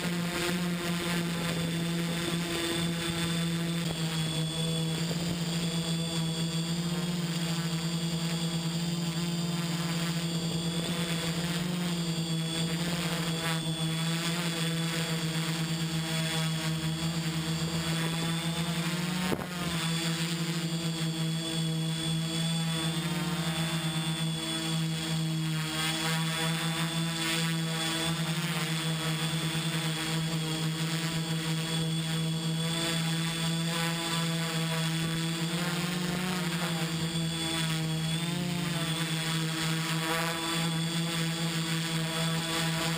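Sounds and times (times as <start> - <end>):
drone motors and propellers whining: 0.0 - 42.9.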